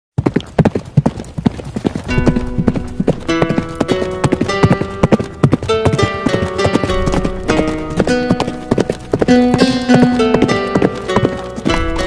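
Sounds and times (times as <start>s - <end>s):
horse hooves clip-clopping: 0.2s - 12.0s
harpsichord music: 2.1s - 12.0s.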